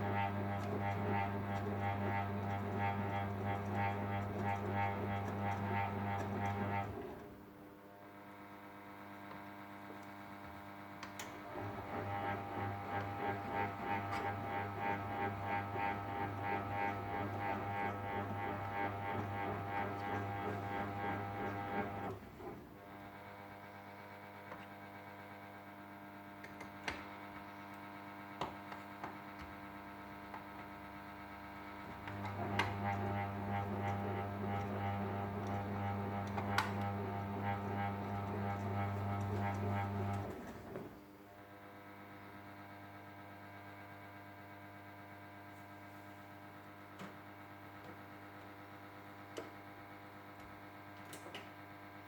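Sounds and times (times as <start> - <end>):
washing machine motor drone: 0.0 - 52.0.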